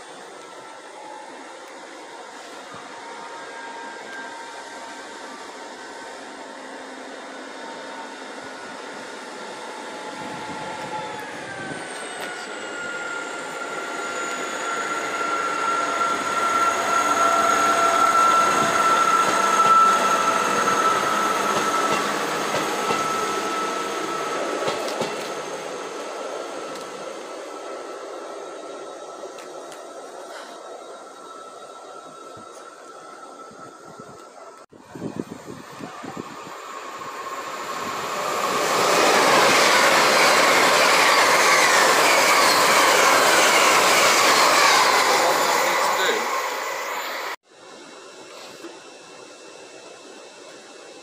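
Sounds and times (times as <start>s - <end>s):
diesel train passing: 0.0s - 51.0s.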